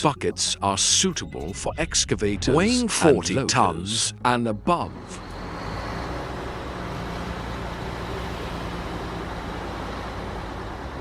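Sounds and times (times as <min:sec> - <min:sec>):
excavator engine drone: 0:00.0 - 0:11.0.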